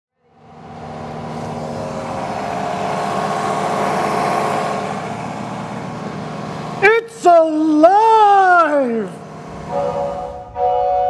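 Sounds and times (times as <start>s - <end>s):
vehicle engine running: 0.2s - 10.6s.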